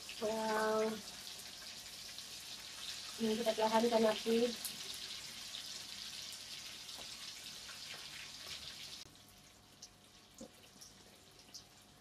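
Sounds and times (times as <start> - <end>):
tofu sizzling in hot oil: 0.0 - 12.0.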